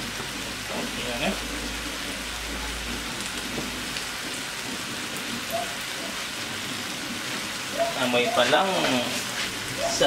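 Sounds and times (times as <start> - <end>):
chicken sizzling in a wok: 0.0 - 10.0.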